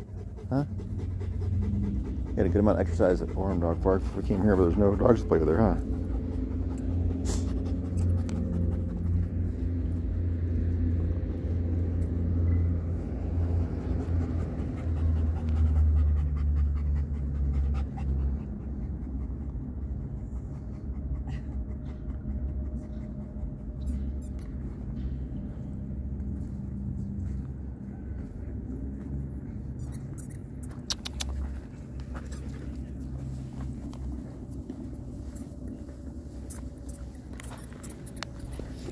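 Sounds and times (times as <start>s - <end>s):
dog panting: 0.0s - 38.9s
low rumble: 0.0s - 38.9s.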